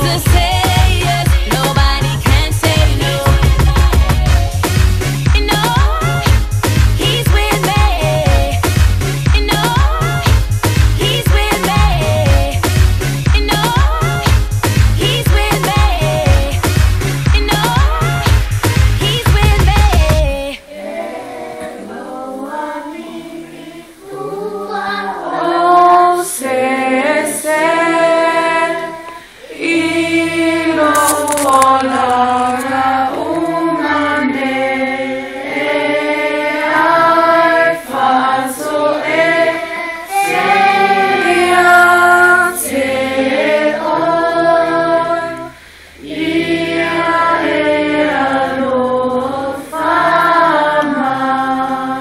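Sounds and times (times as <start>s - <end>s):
group singing: 0.0s - 52.0s.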